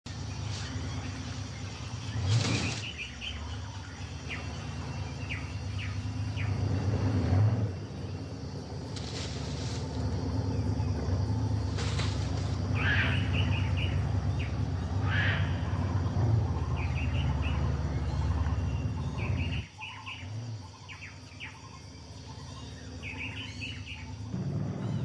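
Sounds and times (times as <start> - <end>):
motorboat engine rumbling: 0.0 - 25.0
birds chirping: 0.1 - 25.0.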